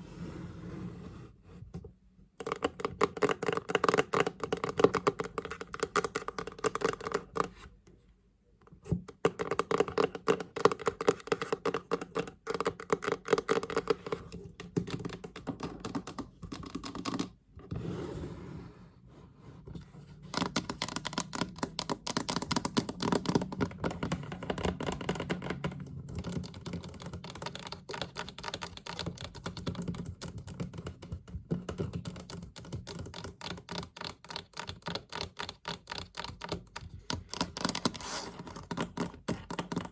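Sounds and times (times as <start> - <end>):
fast tapping on a chest: 2.4 - 7.5, 9.0 - 17.4, 20.3 - 39.9.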